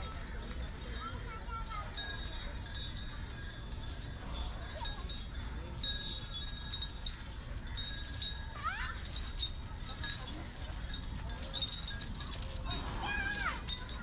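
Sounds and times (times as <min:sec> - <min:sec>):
small metal bells jingling: 0:00.0 - 0:14.0.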